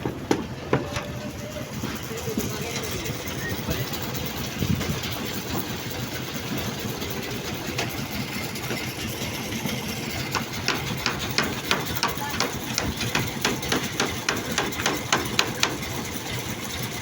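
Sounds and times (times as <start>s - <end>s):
construction machine engine running: 0.0s - 17.0s.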